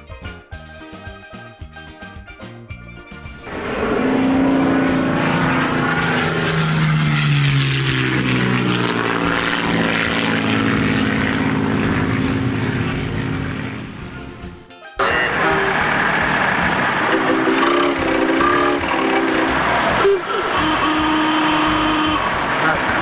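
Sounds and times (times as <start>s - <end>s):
music: 0.0s - 7.0s, 9.2s - 23.0s
propeller aircraft engine drone: 0.0s - 23.0s.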